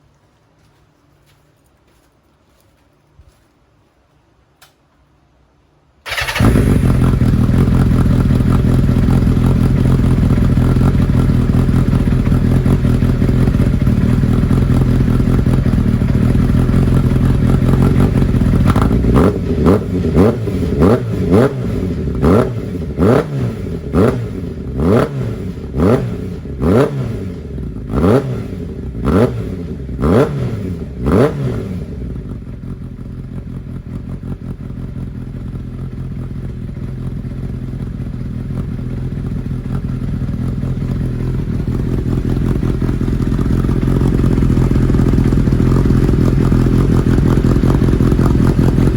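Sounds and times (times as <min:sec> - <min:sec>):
motorcycle engine idling and revving: 0:06.1 - 0:48.9.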